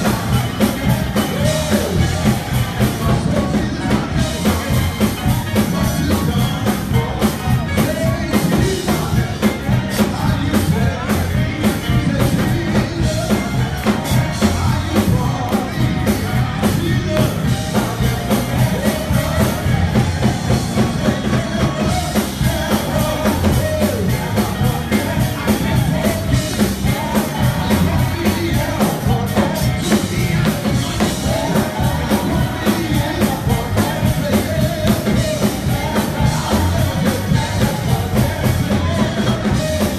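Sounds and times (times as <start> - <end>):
band with a steady beat: 0.0 - 39.9
man singing: 0.0 - 39.9.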